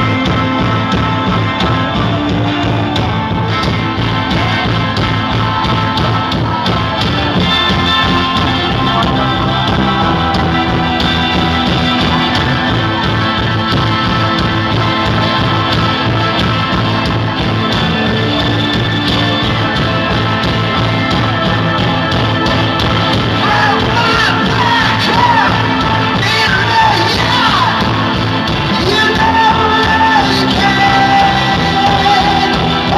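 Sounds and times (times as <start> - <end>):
drums steady beat: 0.0 - 32.9
rock band playing live: 0.0 - 32.9.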